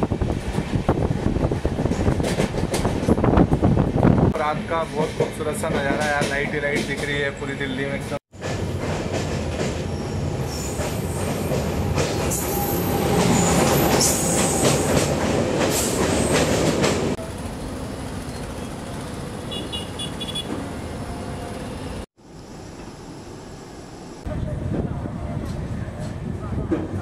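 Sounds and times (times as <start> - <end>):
passing train clatter: 0.0 - 22.1, 24.2 - 27.0.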